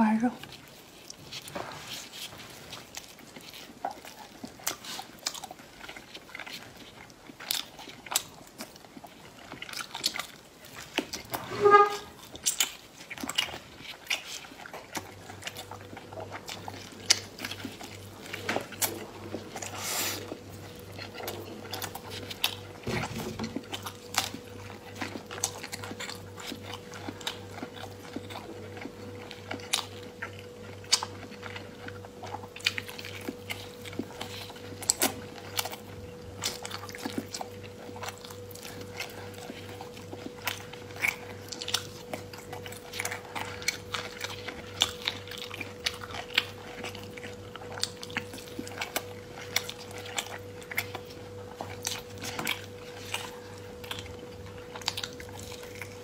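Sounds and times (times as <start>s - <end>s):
faint steady hum: 0.0s - 56.0s
person chewing sticky meat: 0.0s - 56.0s.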